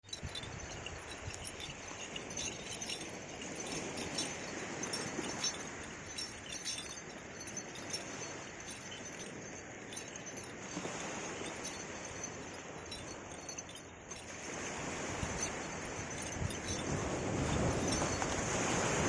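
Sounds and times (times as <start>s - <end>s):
harness bells jingling: 0.0s - 19.0s.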